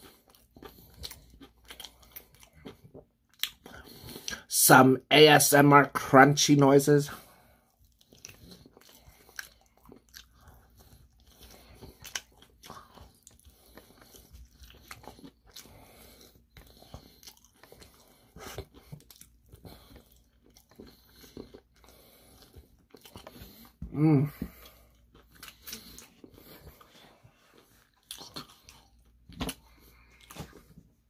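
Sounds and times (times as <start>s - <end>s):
crunching fried chicken batter: 0.0s - 4.4s, 6.4s - 30.6s.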